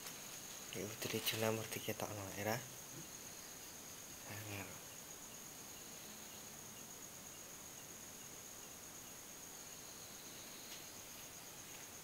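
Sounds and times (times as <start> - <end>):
crickets trilling: 0.0 - 12.0
low hiss: 0.0 - 12.0.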